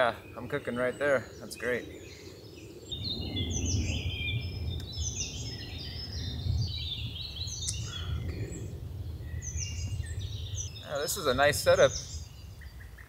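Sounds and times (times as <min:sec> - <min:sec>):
songbirds chirping: 0:00.0 - 0:13.0
steady low rumble: 0:00.6 - 0:13.0.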